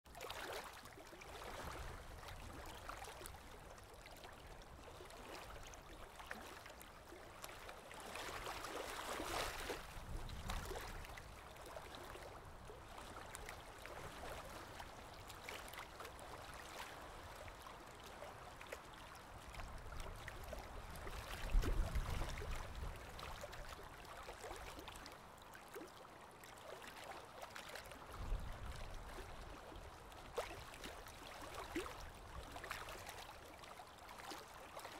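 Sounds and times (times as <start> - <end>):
faint rushing water: 0.1 - 34.9.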